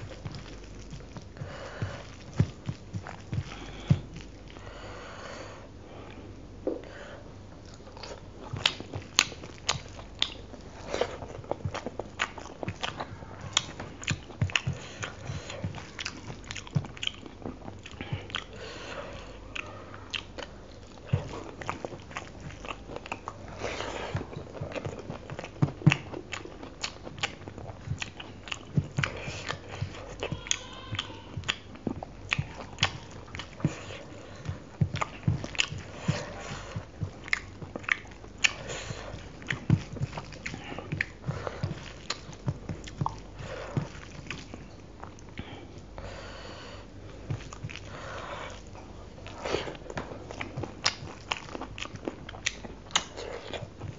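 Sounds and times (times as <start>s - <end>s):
chewing and lip smacking: 0.0s - 4.7s, 7.6s - 46.0s, 47.0s - 53.9s.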